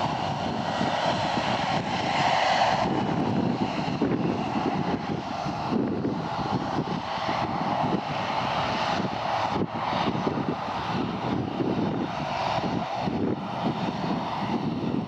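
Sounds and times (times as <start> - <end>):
jet engines at taxi power: 0.0 - 15.0.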